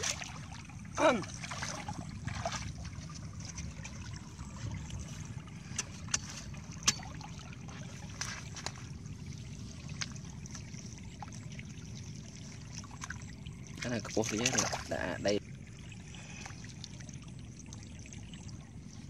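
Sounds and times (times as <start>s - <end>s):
low steady rumble: 0.0s - 19.0s
shallow water trickling: 0.0s - 19.0s.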